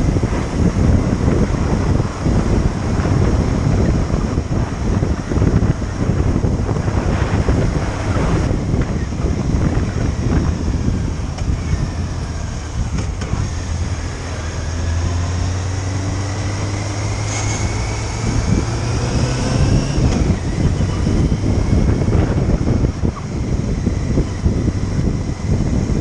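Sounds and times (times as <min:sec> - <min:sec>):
motorcycle engine hum: 0:00.0 - 0:26.0
wind buffeting microphone: 0:00.0 - 0:26.0.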